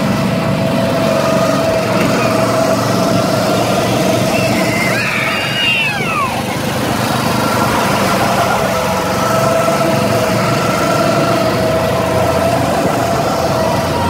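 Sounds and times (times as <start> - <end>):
go-kart engine running: 0.0 - 14.0
other kart engines: 0.0 - 14.0.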